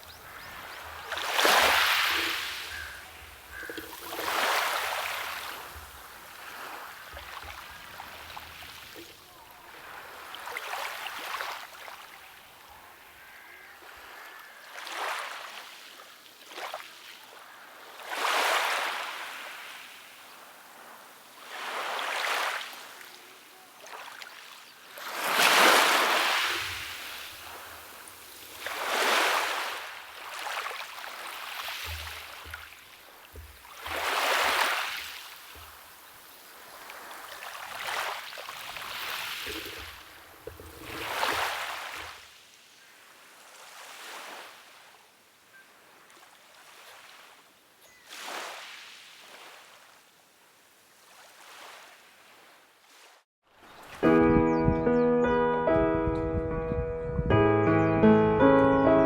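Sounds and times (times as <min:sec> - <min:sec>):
small waves washing onto beach: 0:00.0 - 0:54.0.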